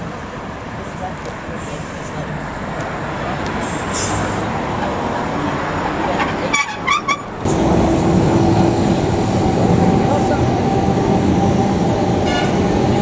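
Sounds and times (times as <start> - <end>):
street noise: 0.0 - 13.0
tram running noise: 0.0 - 13.0.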